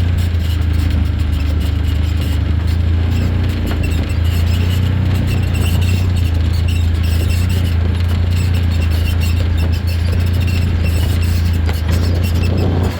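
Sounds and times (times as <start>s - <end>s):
off-road vehicle engine droning: 0.0s - 12.9s
high-pitched squeaks: 0.2s - 12.9s.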